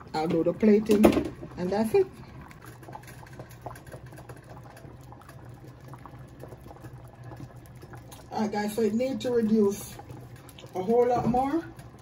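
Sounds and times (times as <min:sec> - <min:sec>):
thick soup bubbling in pot: 0:00.0 - 0:12.0.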